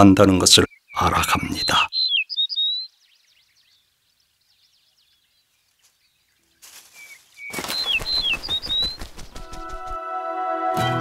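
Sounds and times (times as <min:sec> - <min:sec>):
small songbird chirping: 0:00.2 - 0:10.0.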